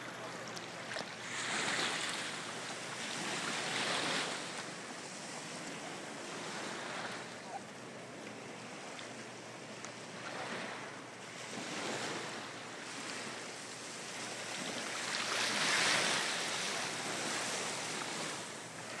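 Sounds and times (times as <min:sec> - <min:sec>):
small waves lapping: 0:00.0 - 0:19.0.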